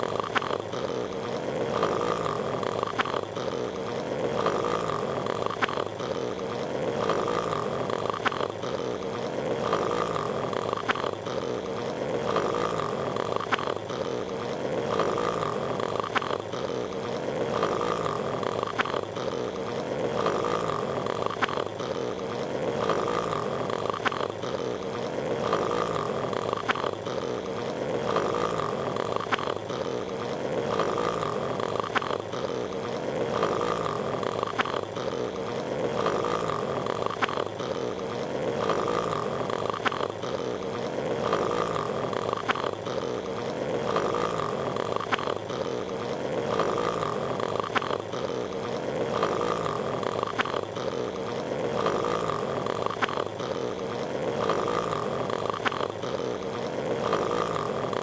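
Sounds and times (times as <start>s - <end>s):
cartoon snoring: 0.0s - 58.0s.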